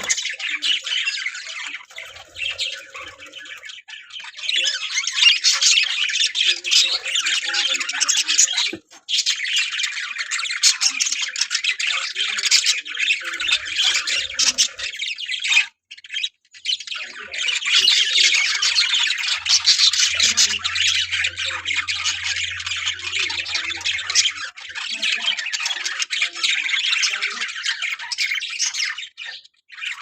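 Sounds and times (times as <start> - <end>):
budgerigars chattering and squawking: 0.0 - 30.0.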